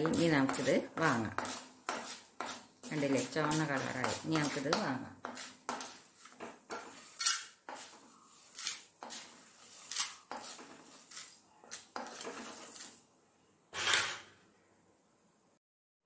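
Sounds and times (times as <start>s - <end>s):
spatula scraping metal pan: 0.0s - 13.0s, 13.7s - 14.4s.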